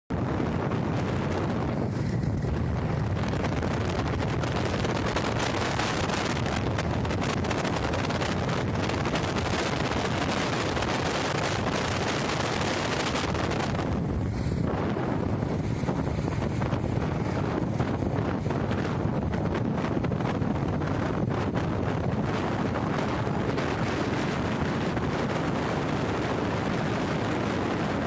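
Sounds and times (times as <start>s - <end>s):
motorcycle engine: 0.1s - 28.0s
wind buffeting microphone: 0.1s - 28.0s.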